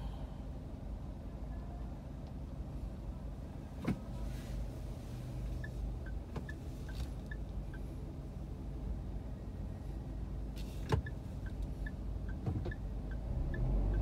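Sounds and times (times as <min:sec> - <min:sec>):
car engine idling: 0:02.1 - 0:14.0.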